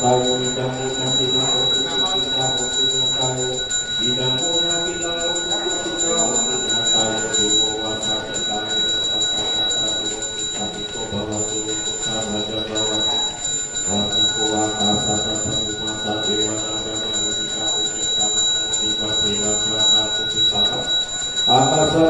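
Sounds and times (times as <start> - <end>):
man chanting: 0.0 - 22.0
small hand bell ringing: 0.0 - 22.0.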